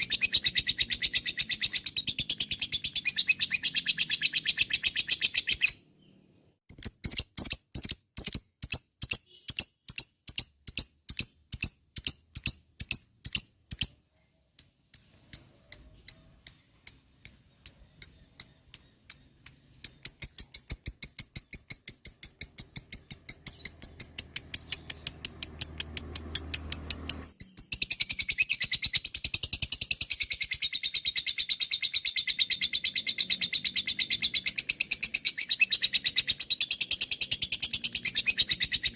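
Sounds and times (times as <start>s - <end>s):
lovebird chirping and trilling: 0.0s - 14.0s, 14.6s - 38.9s.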